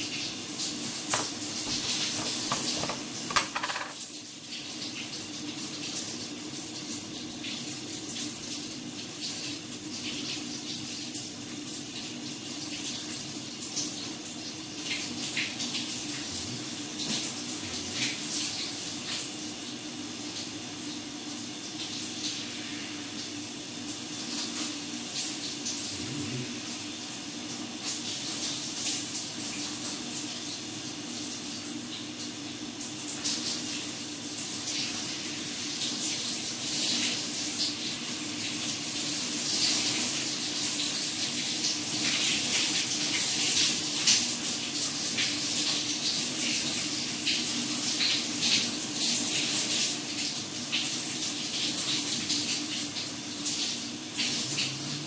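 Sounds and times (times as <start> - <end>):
water running from a tap: 0.0 - 55.0.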